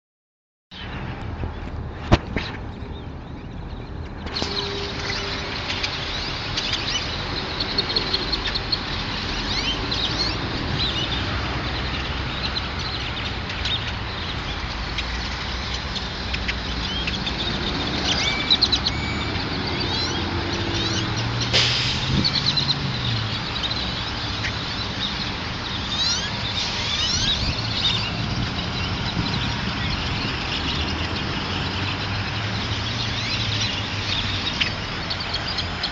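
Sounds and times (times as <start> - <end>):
small birds chirping: 0.8 - 35.9.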